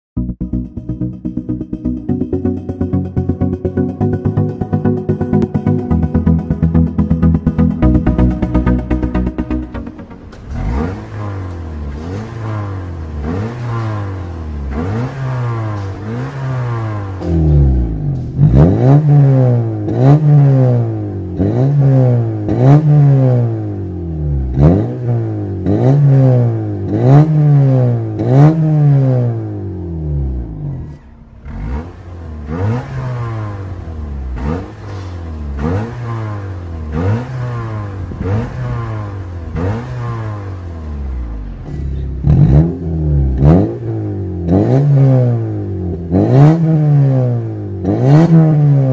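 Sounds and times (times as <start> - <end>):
car engine revving: 0.4 - 48.9.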